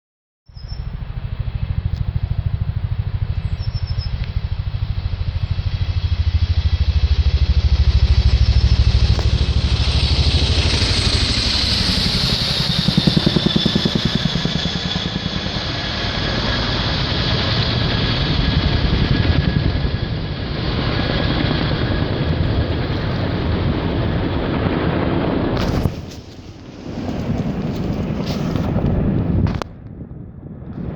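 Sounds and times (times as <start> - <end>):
helicopter rotor beat: 0.5 - 30.9
high turbine whine: 0.5 - 30.9.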